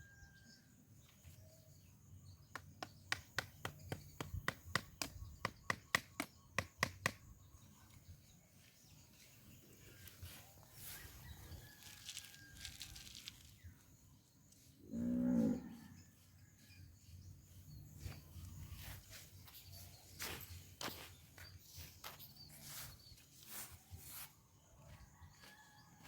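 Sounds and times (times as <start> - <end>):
faint outdoor background noise: 0.0 - 26.0.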